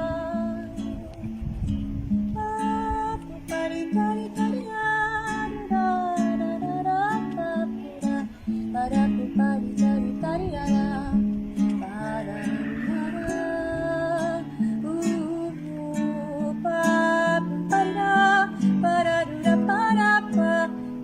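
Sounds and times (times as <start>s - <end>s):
acoustic guitar picking: 0.0s - 21.0s.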